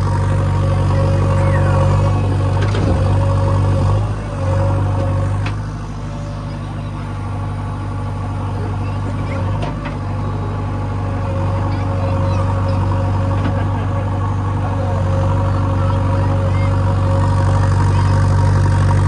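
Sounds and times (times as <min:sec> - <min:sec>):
diesel engine under load: 0:00.0 - 0:19.0.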